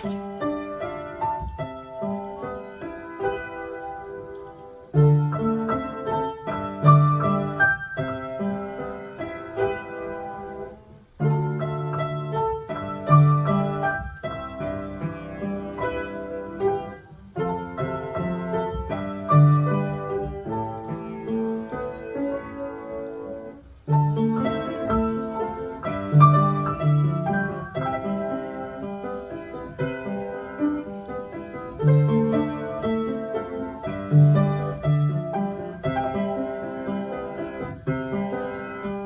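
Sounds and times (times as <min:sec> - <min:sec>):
slow piano piece: 0:00.0 - 0:39.0.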